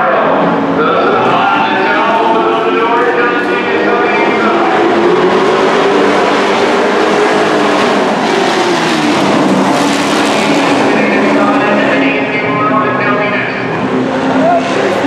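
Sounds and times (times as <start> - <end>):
race truck engines running hard: 0.0 - 15.0.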